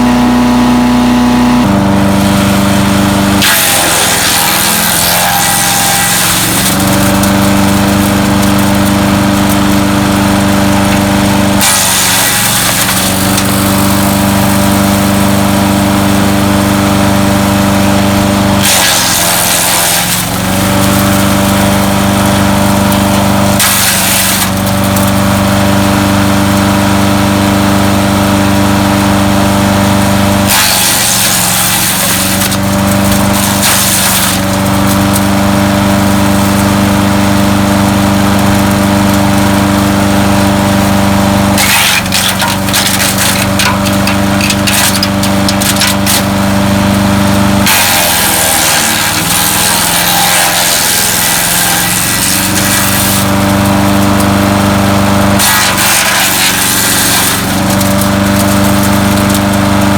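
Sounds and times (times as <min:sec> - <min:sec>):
chipper engine running: 0:00.0 - 0:59.9
crackling and grinding chipping: 0:01.6 - 0:27.6, 0:28.2 - 0:59.9.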